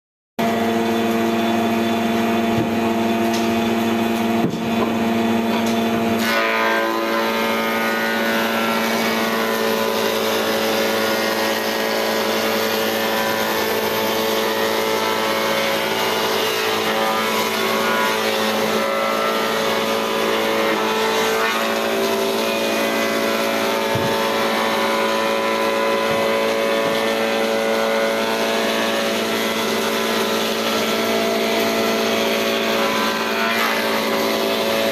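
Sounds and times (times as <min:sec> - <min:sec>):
planer-thicknesser humming: 0:00.4 - 0:34.9.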